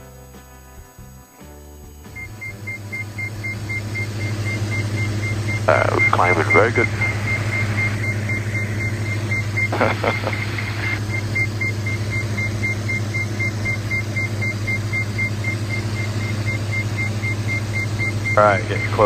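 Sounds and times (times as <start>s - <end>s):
engine and propeller drone: 2.1s - 19.0s
high warning beep: 2.1s - 19.0s.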